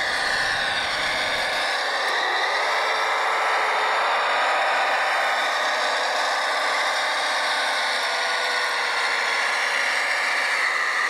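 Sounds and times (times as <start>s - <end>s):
electric motor and gear whine: 0.0s - 11.0s.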